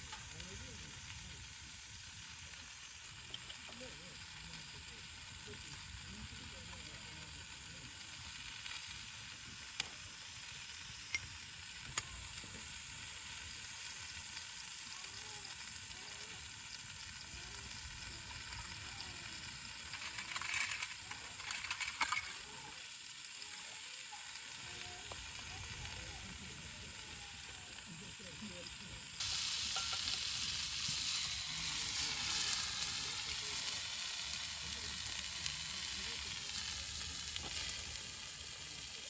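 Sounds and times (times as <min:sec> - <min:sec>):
sharp pops and crackling: 0:00.0 - 0:03.9, 0:08.2 - 0:39.0
food sizzling in a frying pan: 0:00.0 - 0:39.0.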